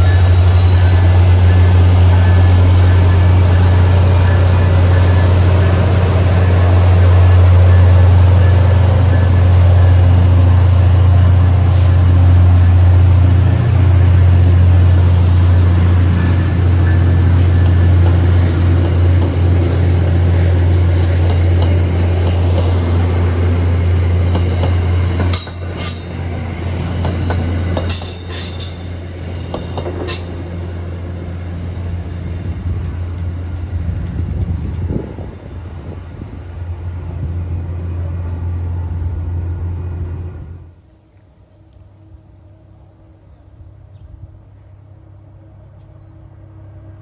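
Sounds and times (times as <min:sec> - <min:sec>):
train wheel noise: 0:00.0 - 0:40.9
diesel train rumble: 0:00.0 - 0:47.0.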